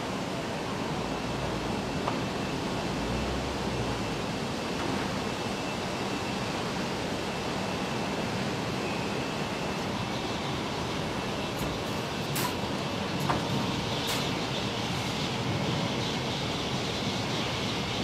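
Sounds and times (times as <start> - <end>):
steady factory hiss: 0.0 - 18.0.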